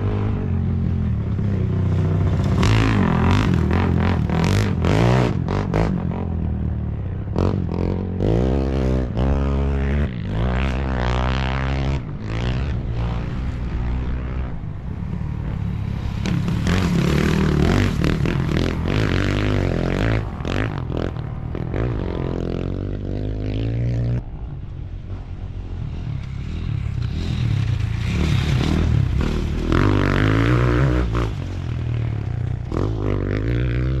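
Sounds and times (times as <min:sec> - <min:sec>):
motorcycle and quad engines revving: 0:00.0 - 0:34.0.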